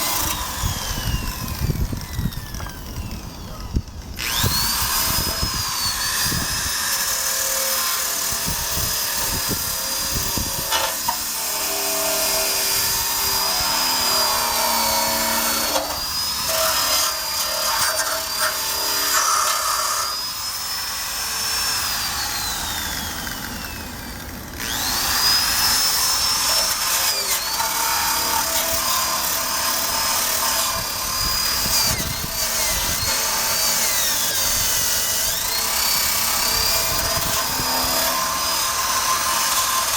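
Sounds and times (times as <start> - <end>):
power drill motor whine: 0.0 - 39.9.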